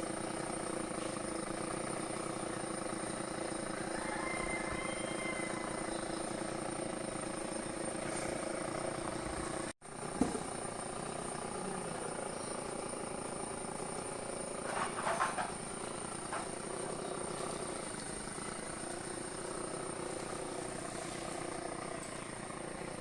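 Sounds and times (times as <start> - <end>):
chainsaw engine running: 0.0 - 23.0.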